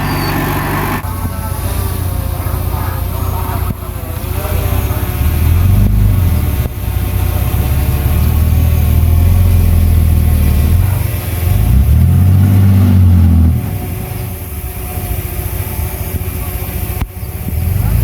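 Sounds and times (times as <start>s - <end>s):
heavy diesel engine revving: 0.0s - 18.0s.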